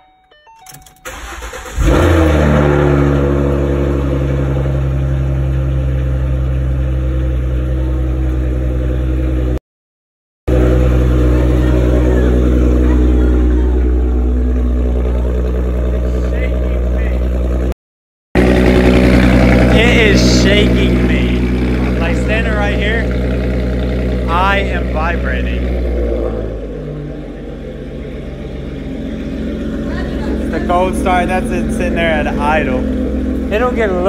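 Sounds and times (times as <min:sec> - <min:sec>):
car engine starting and idling: 0:00.0 - 0:09.6, 0:10.5 - 0:17.8, 0:18.4 - 0:34.0.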